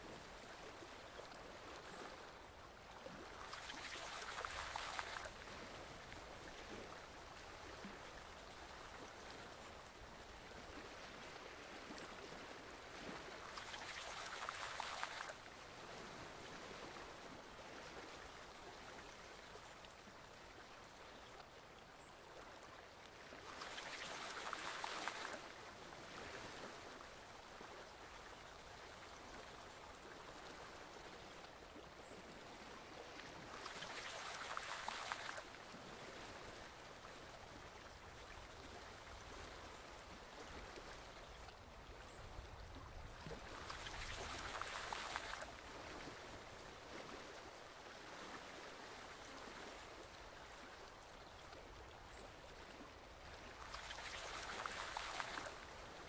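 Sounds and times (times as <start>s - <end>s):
forest stream flowing: 0.0s - 56.0s.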